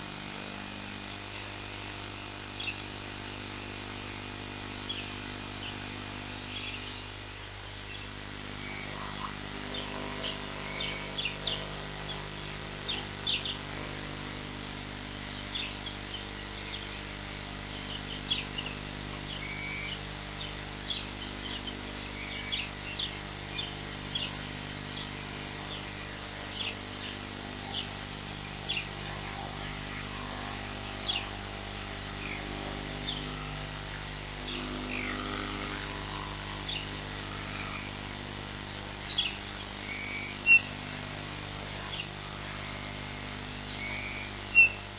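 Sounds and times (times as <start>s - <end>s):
steady low hum: 0.0s - 44.9s
birds chirping: 2.4s - 3.4s, 4.7s - 44.9s.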